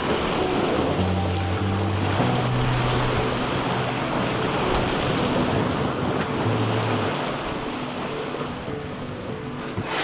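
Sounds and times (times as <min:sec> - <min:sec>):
wind buffeting microphone: 0:00.0 - 0:08.7
ocean waves: 0:00.0 - 0:10.0
water rushing along hull: 0:00.0 - 0:10.0.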